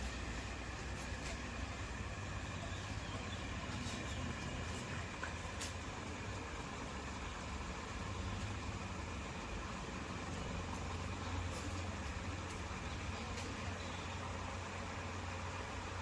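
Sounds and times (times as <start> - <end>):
low background hum and hiss: 0.0 - 16.0.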